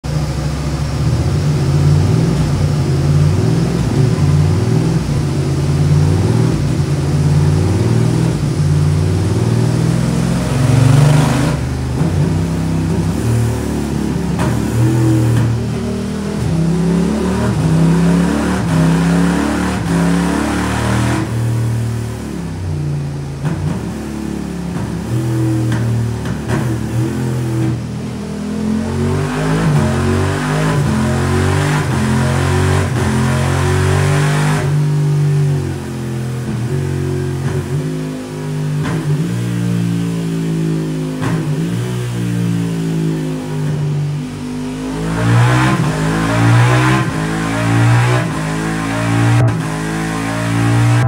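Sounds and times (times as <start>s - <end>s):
motorcycle engine revving hard: 0.0s - 51.0s.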